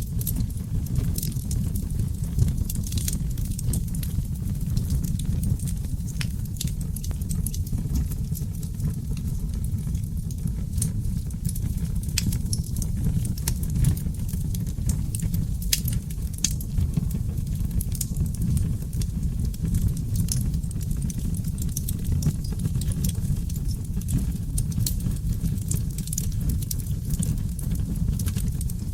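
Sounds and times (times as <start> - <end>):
fire flames rumbling: 0.0 - 28.9
wood crackling and popping: 0.0 - 28.9.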